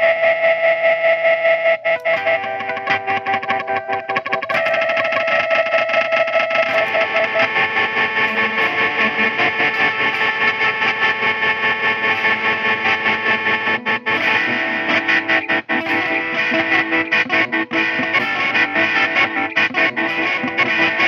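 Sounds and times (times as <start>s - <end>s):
distorted electric guitar noise: 0.0s - 21.0s.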